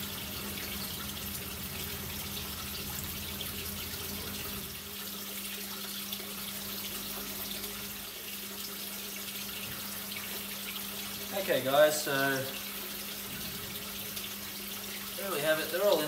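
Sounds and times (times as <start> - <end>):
water running from a tap: 0.0 - 16.0.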